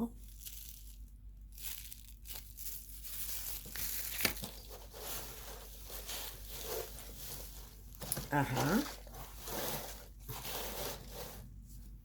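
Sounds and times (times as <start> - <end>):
paper packaging crinkling: 0.1 - 11.5.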